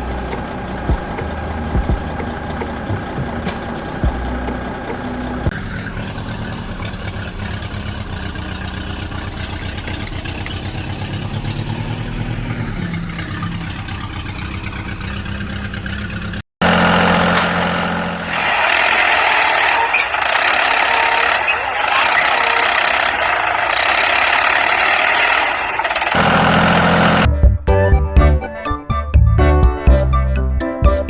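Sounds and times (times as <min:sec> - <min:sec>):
harsh loud engine: 0:00.0 - 0:28.1
engine running low pitch: 0:00.0 - 0:31.0.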